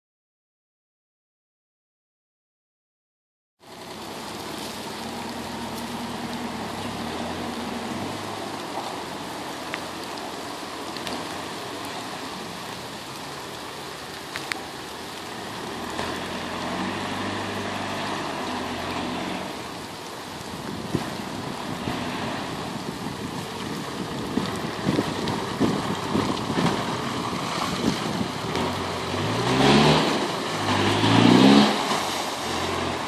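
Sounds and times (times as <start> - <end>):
off-road vehicle engine working: 3.6 - 33.0
rain hissing: 3.6 - 33.0.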